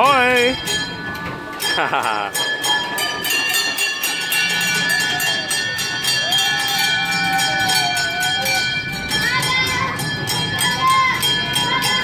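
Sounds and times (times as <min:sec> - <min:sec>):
clatter of turning ride: 0:00.0 - 0:12.0
small bells ringing: 0:00.0 - 0:12.0.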